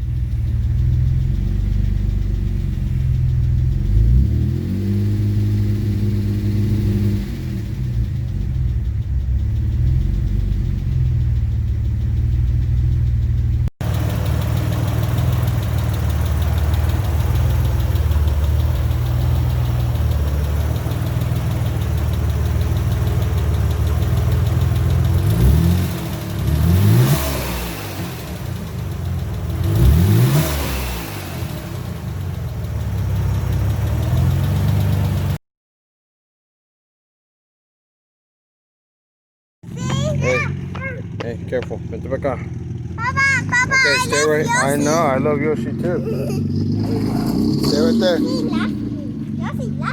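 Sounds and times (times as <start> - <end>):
car engine idling: 0.0 - 35.4, 39.6 - 49.9
engine revving: 0.0 - 35.4, 39.6 - 49.9.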